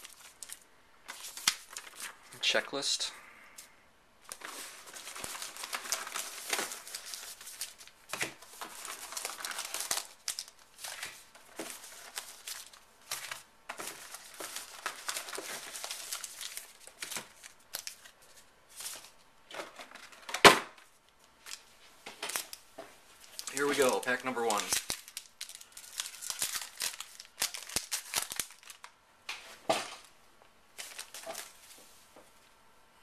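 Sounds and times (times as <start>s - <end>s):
card packs crinkling and rustling: 0.0s - 30.1s, 30.7s - 32.1s.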